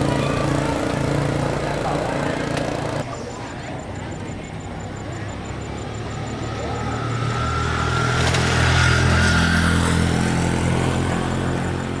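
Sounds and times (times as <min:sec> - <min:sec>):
motorbike engine running: 0:00.0 - 0:03.1, 0:03.7 - 0:12.0.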